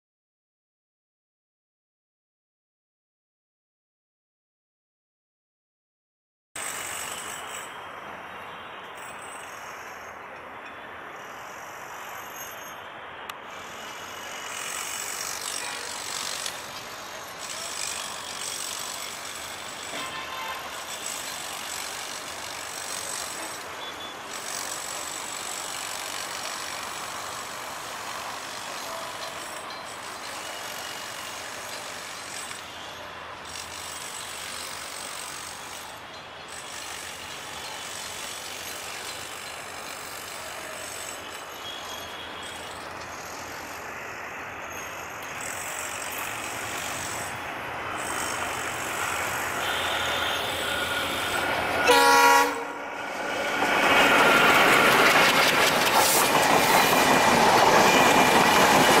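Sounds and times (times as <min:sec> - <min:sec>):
diesel train approaching: 0:06.6 - 0:59.0.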